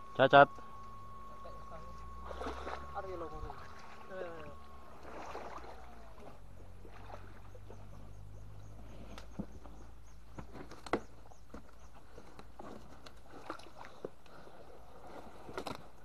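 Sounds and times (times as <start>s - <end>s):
steady low hum: 0.0s - 16.0s
fish flopping and splashing: 2.0s - 16.0s.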